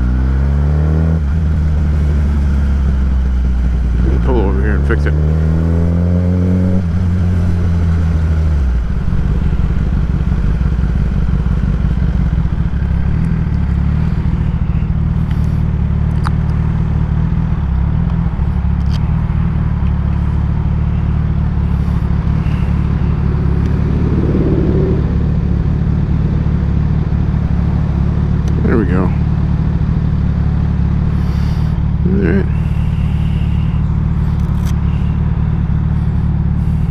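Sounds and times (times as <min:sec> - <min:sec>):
motorcycle engine idling: 0:01.2 - 0:05.1, 0:06.7 - 0:36.9.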